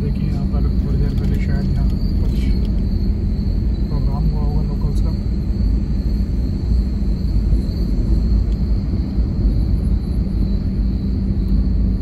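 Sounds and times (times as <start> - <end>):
faint high-pitched tone: 0.0 - 11.6
tyre and engine rumble: 0.0 - 12.0.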